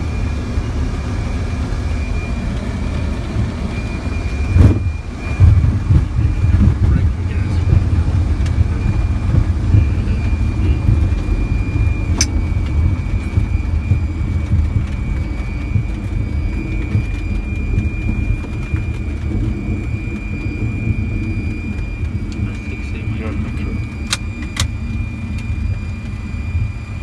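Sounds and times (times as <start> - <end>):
airliner rolling on runway: 0.0 - 27.0.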